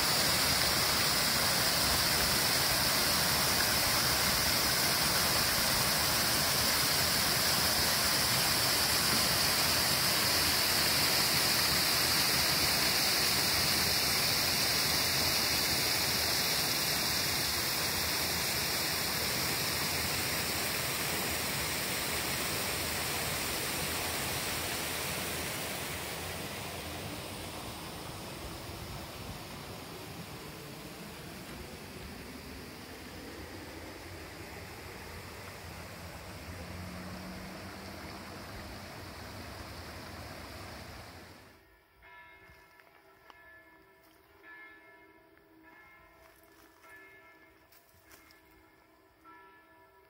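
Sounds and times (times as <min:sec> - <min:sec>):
rushing water: 0:00.0 - 0:41.5.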